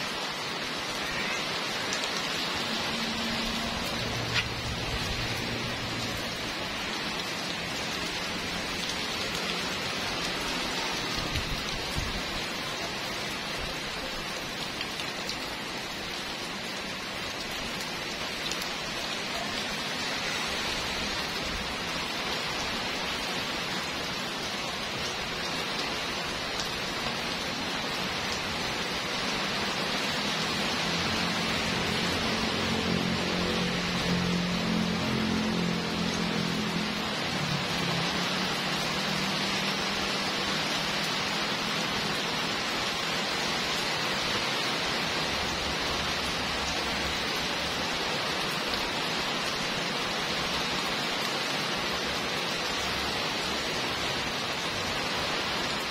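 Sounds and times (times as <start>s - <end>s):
heavy rain on paving and cars: 0.0s - 55.9s.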